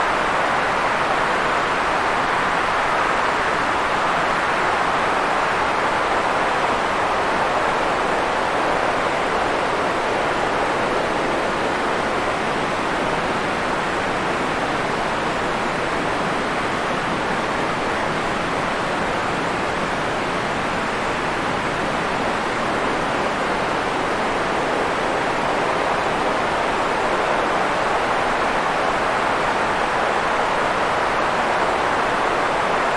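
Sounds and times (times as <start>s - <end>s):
white noise hiss: 0.0s - 32.9s.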